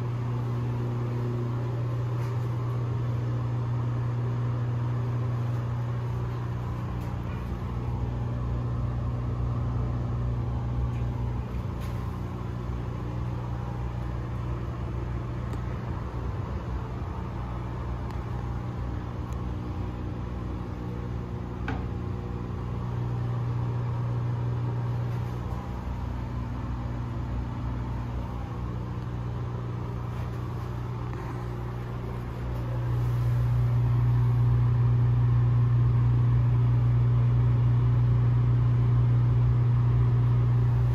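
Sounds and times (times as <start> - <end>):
low mechanical hum with hiss: 0.0 - 40.9.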